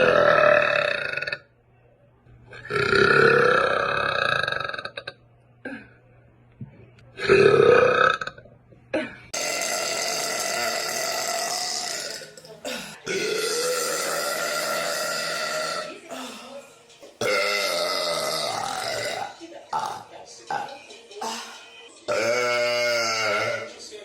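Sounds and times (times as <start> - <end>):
woman burping: 0.0 - 1.5, 2.5 - 6.0, 7.2 - 23.7.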